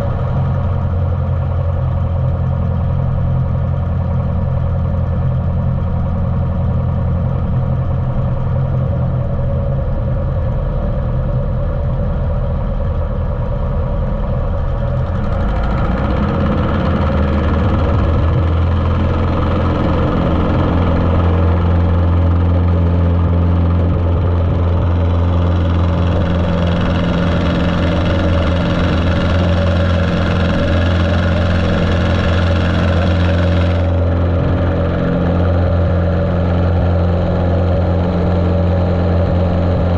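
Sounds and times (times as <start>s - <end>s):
muffled propeller engine running: 0.0s - 39.9s.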